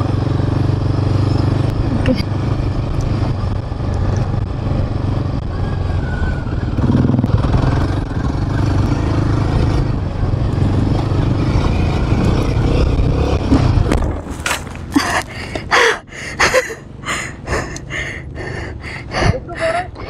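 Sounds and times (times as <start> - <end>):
motorcycle engine running: 0.0 - 16.3.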